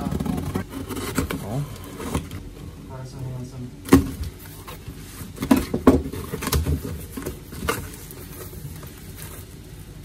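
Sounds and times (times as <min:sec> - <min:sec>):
cardboard box being handled: 0:00.0 - 0:02.4, 0:04.0 - 0:10.0.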